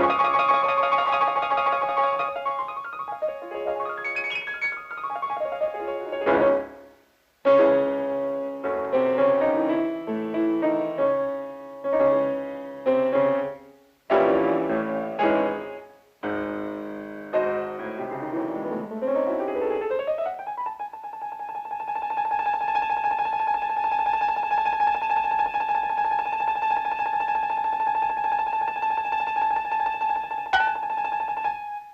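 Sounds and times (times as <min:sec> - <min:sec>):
piano chords: 0:00.0 - 0:31.9.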